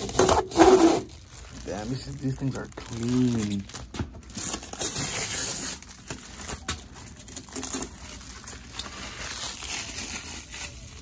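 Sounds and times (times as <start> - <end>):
plastic wrapping crinkling and tearing: 0.0 - 11.0.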